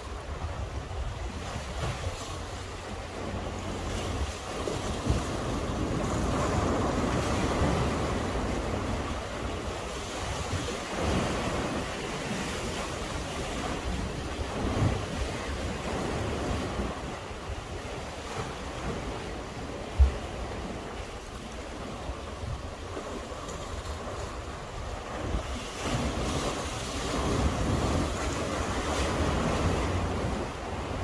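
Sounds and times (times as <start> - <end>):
sea waves washing on breakwater: 0.0 - 31.0
wind buffeting microphone: 0.0 - 31.0.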